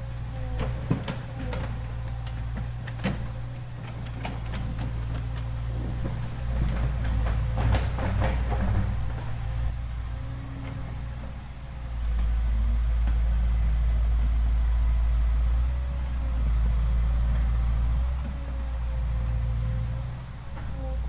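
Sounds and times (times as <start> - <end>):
deep steady rumble: 0.0 - 21.0.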